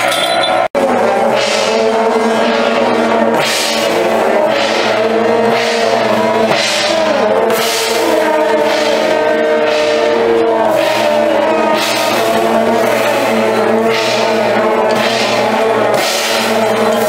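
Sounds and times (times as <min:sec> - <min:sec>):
long metal horns blowing: 0:00.0 - 0:17.0
metal percussion crashes: 0:00.0 - 0:17.0.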